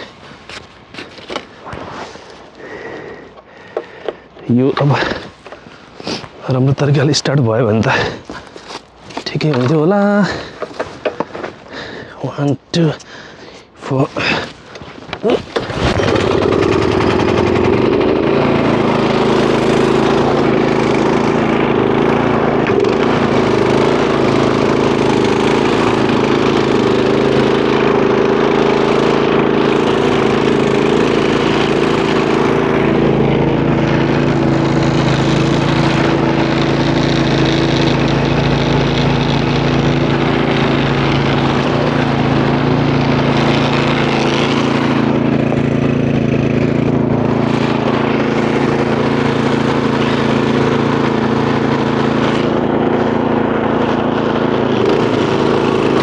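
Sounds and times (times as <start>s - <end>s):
small snowblower engine running: 0.0s - 56.0s.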